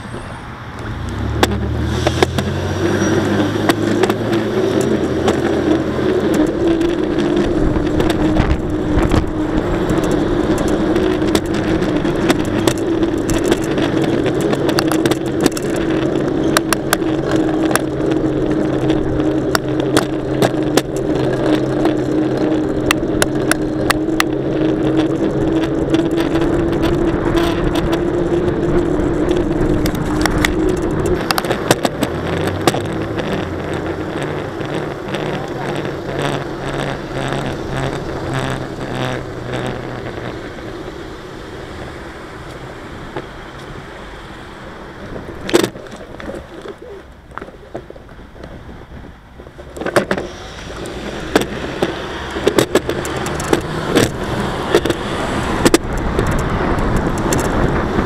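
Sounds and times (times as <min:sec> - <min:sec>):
bike tyre hum: 0:00.0 - 0:58.0
bike clicks and rattles: 0:00.8 - 0:58.0.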